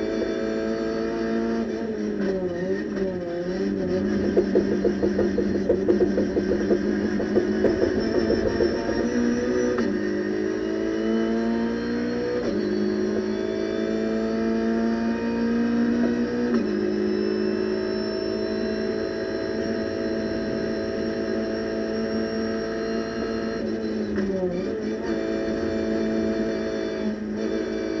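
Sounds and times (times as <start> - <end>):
race car engine accelerating: 0.0 - 28.0.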